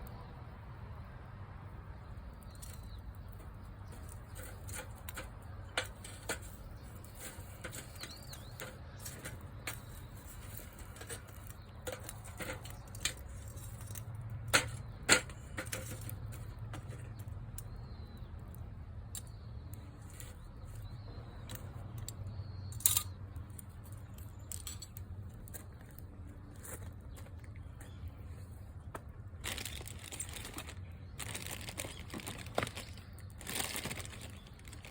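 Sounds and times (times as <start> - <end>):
low fire rumble: 0.0 - 34.9.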